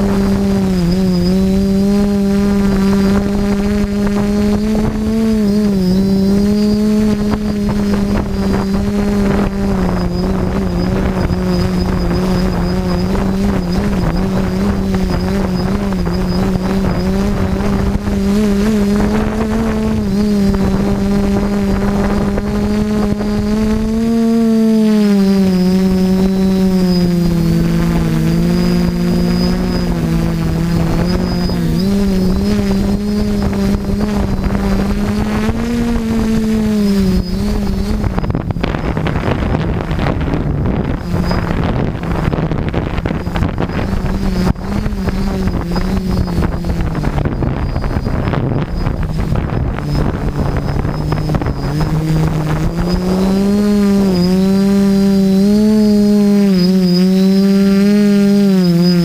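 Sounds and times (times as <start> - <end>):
drone propellers humming: 0.0 - 59.0
wind on microphone: 0.0 - 59.0.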